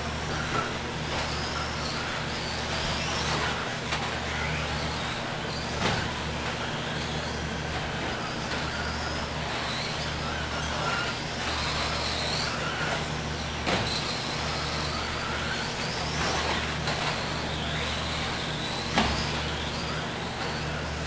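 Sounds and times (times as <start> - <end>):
electric motors and gears whining: 0.0 - 21.0.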